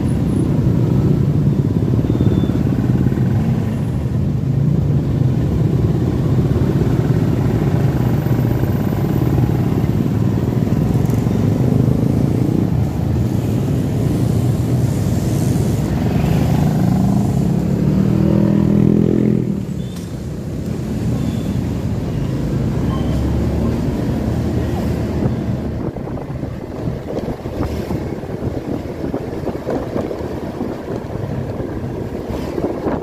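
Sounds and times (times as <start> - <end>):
scooter and motorcycle engines: 0.0 - 33.0.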